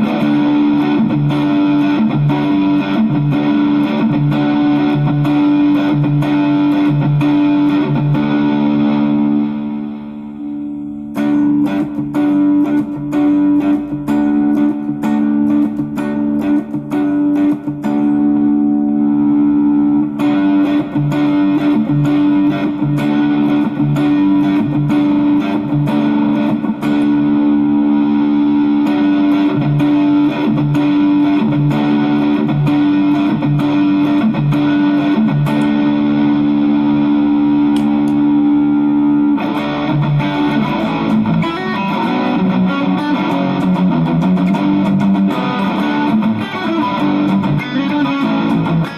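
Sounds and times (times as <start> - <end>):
overdriven electric guitar: 0.0 - 48.9.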